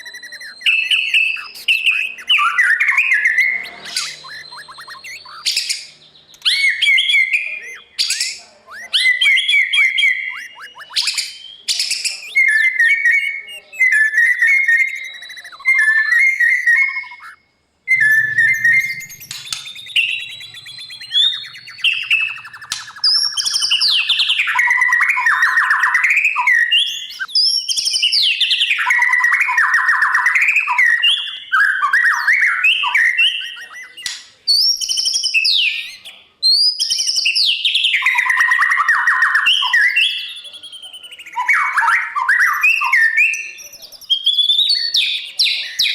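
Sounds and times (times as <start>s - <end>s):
bird singing whistled song: 0.0s - 45.9s.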